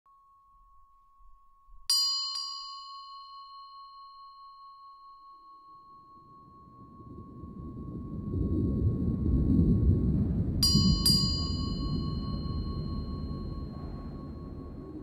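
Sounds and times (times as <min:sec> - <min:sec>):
singing bowl ringing: 0:00.1 - 0:09.4, 0:10.6 - 0:15.0.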